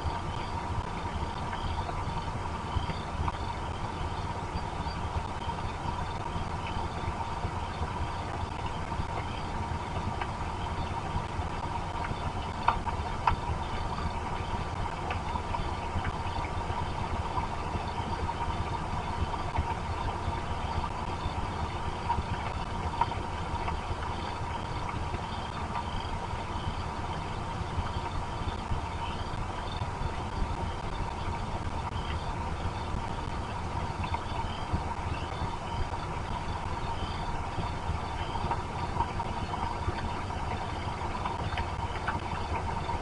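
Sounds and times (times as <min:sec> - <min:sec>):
faint steady tone: 0:00.0 - 0:43.0
steady rain: 0:00.0 - 0:43.0
raindrop ticks: 0:00.1 - 0:43.0.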